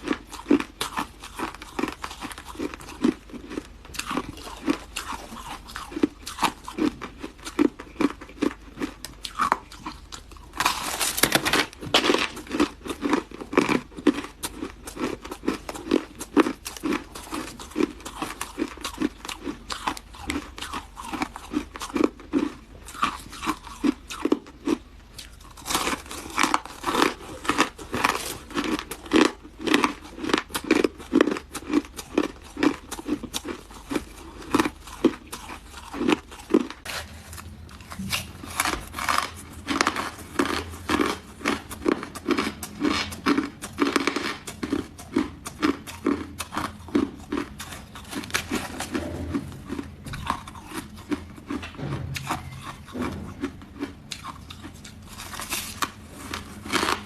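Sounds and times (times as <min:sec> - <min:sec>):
chewing ice crunches: 0:00.0 - 0:57.0.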